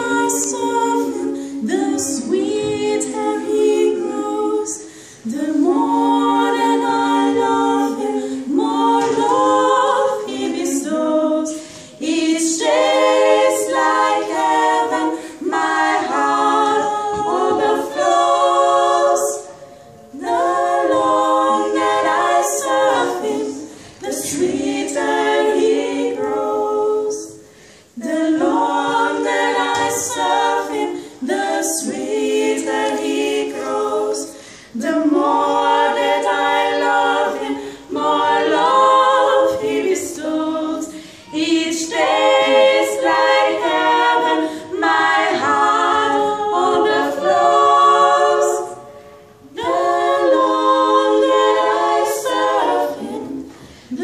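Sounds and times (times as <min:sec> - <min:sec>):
women singing in harmony: 0:00.0 - 0:54.0.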